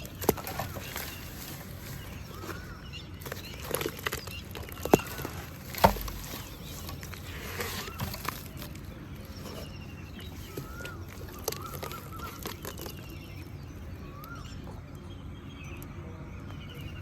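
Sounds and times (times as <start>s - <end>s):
water trickling over pebbles: 0.0s - 14.5s
birds whistling and trilling: 0.0s - 17.0s.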